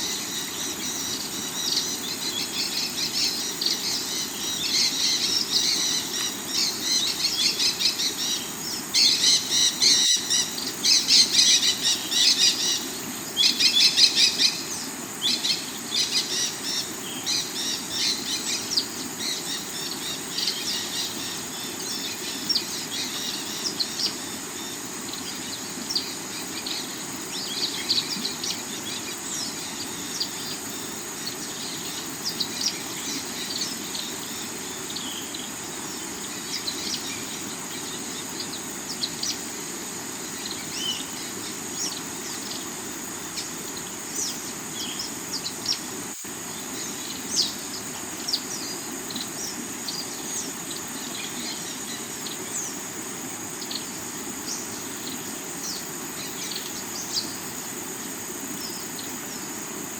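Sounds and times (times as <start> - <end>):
high insect buzz: 0.0 - 59.9.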